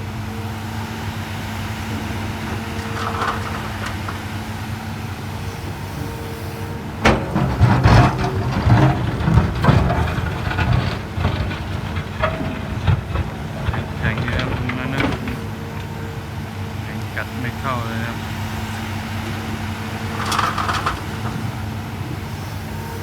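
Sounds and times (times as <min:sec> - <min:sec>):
diesel engine running: 0:00.0 - 0:23.0
excavator bucket clunks: 0:00.7 - 0:23.0.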